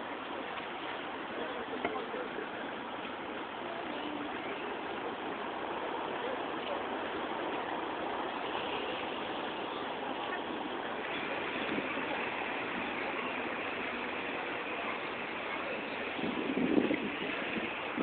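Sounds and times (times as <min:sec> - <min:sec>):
traffic rushing: 0:00.0 - 0:18.0.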